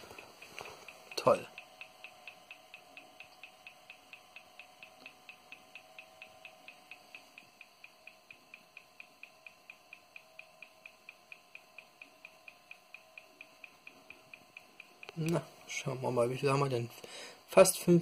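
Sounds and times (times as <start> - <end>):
fast laptop ticking: 0.0 - 15.8
faint steady hum: 0.0 - 18.0.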